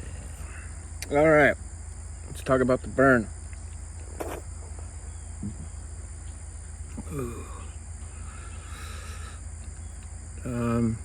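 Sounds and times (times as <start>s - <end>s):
crickets chirping: 0.0s - 11.0s
low hum: 0.0s - 11.0s.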